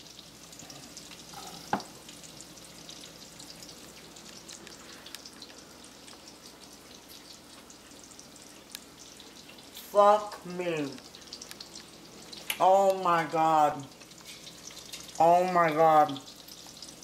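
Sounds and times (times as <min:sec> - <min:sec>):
mushrooms sizzling in skillet: 0:00.0 - 0:17.0.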